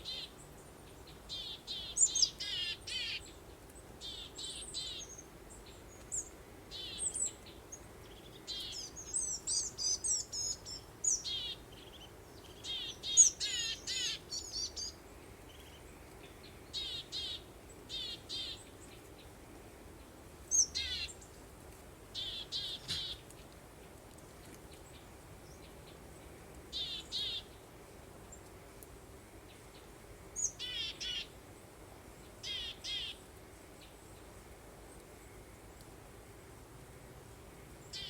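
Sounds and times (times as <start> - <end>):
songbird chirping: 0.0 - 35.9, 37.4 - 38.0
faint breeze: 0.0 - 38.0.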